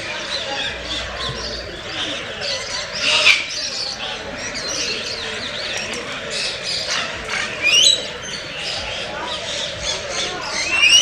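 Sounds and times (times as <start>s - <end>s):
birds chirping and calling: 0.0s - 11.0s
murmur of background voices: 0.0s - 11.0s.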